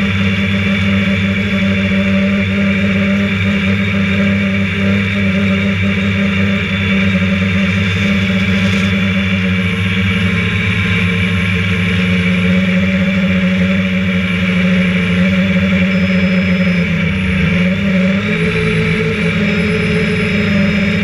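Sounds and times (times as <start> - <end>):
drone motors and propellers droning: 0.0 - 21.0.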